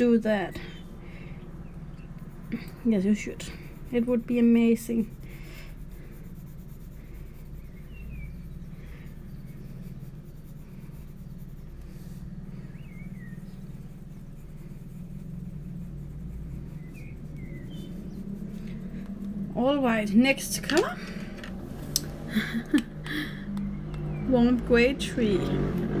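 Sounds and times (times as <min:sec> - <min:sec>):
pencil scratching on paper: 0:00.0 - 0:21.8
steady low hum: 0:00.0 - 0:26.0.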